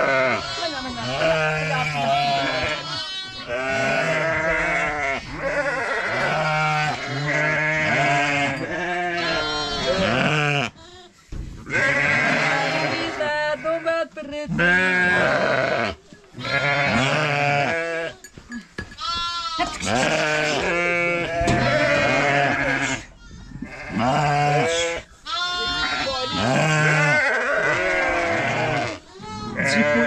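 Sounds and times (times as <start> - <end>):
sheep bleating: 0.0 - 10.9, 11.7 - 18.2, 19.0 - 30.0.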